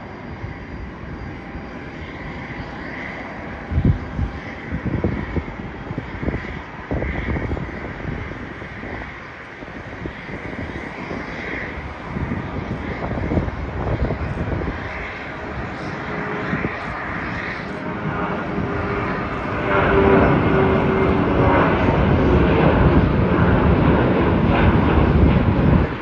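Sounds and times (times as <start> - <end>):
jet engines running: 0.0 - 26.0
wind buffeting microphone: 0.0 - 26.0.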